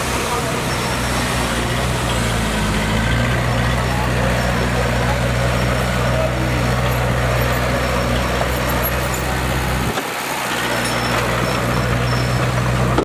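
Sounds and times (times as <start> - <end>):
heavy diesel engine humming: 0.0 - 13.0.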